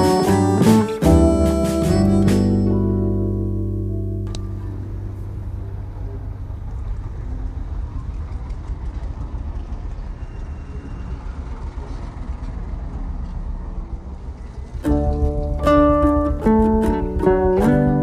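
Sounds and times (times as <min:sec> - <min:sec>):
low roadside rumble: 0:00.0 - 0:18.0.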